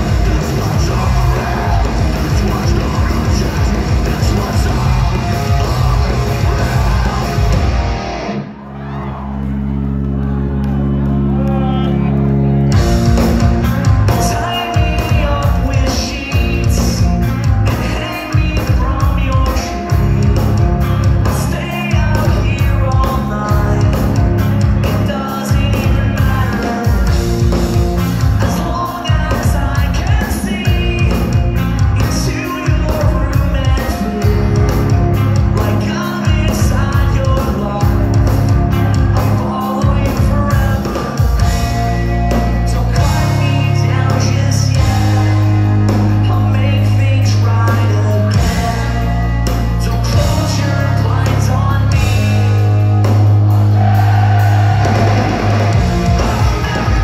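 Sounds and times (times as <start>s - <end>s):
person singing: 0.0s - 8.0s, 13.1s - 20.6s, 21.3s - 27.6s, 28.4s - 52.8s, 53.7s - 57.0s
steady drum beat: 0.0s - 8.2s, 12.8s - 57.0s
bass guitar: 0.0s - 57.0s
distorted electric guitars: 0.0s - 57.0s.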